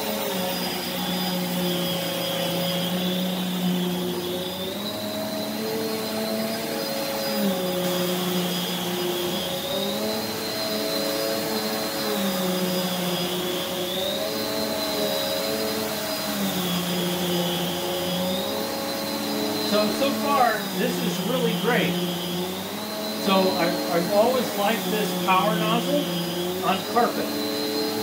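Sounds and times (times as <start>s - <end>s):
vacuum cleaner whine: 0.0s - 28.0s.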